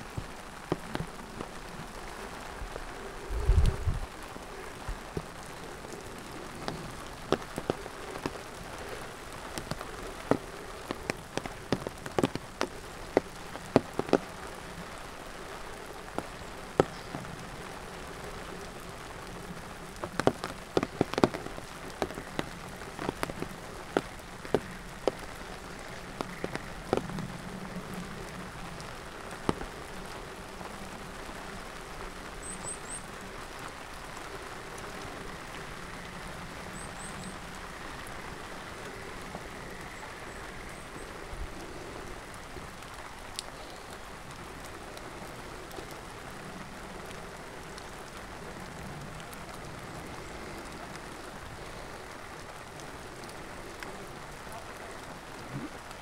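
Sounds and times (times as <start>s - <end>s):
raindrops tapping: 0.0s - 56.0s
steady rain hiss: 0.0s - 56.0s.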